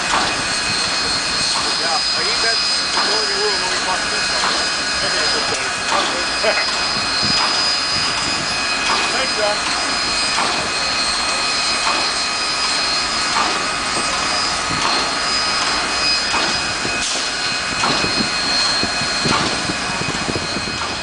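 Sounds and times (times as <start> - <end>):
regular locomotive beat: 0.0 - 21.0
steam locomotive hissing steam: 0.0 - 21.0.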